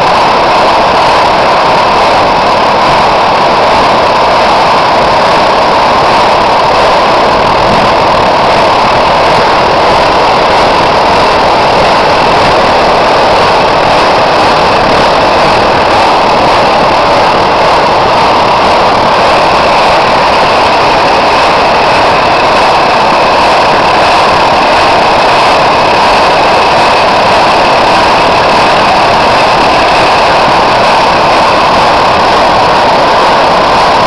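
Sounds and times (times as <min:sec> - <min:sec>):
blow lamp burner rushing: 0:00.0 - 0:34.0.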